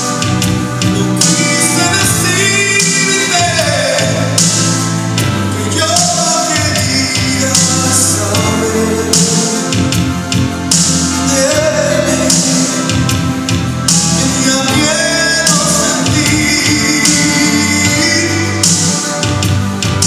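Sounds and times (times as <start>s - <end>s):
instrumental backing music: 0.0s - 20.0s
person singing long sliding notes: 0.0s - 20.0s.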